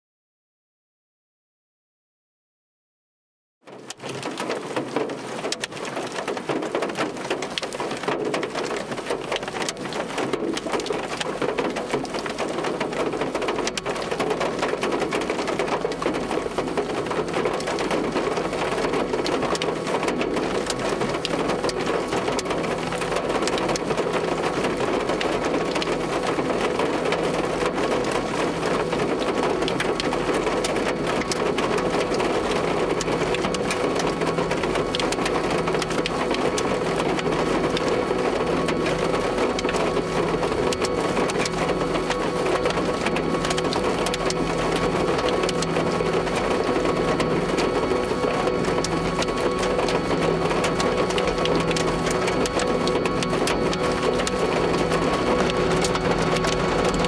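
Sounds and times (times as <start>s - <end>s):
hailstones pelting down: 3.7s - 57.0s.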